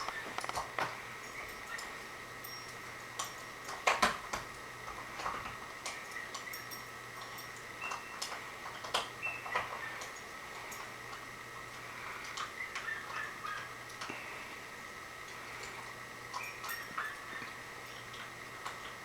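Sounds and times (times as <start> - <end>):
ceiling fan ticking and clicking: 0.0 - 19.0
faint steady hum: 0.0 - 19.0.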